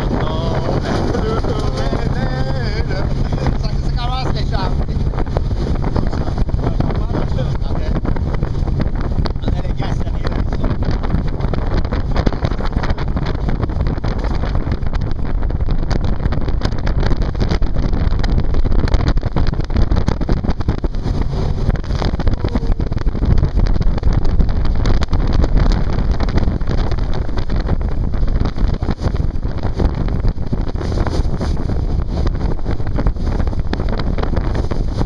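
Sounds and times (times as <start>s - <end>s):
boat and water rushing: 0.0s - 35.0s
wind buffeting microphone: 0.0s - 35.0s.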